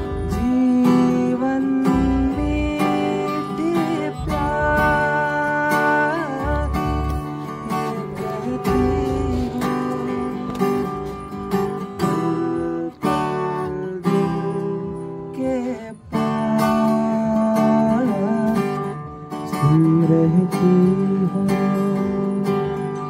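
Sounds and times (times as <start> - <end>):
acoustic guitar strumming chords: 0.0 - 23.0
person singing: 0.0 - 23.0.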